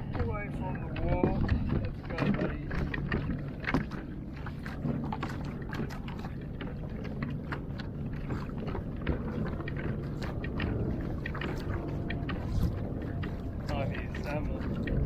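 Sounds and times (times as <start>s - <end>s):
small clicks and splashes: 0.0s - 15.0s
water against kayak hull: 0.0s - 15.0s
wind on microphone: 0.0s - 15.0s.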